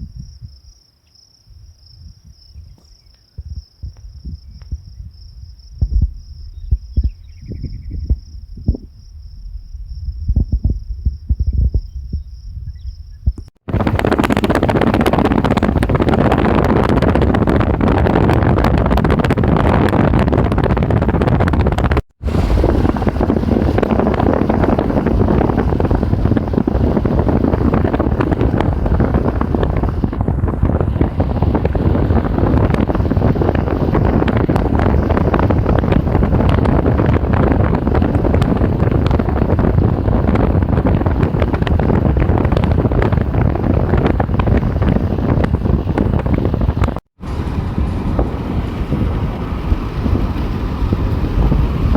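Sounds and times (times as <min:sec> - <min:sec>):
wind buffeting microphone: 0:00.0 - 0:00.8, 0:01.5 - 0:51.9.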